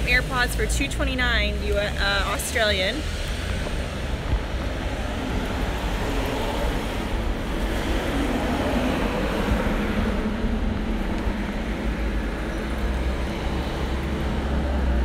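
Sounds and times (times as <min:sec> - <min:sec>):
road traffic rumble: 0:00.0 - 0:15.0
vehicle engine hum: 0:00.0 - 0:15.0.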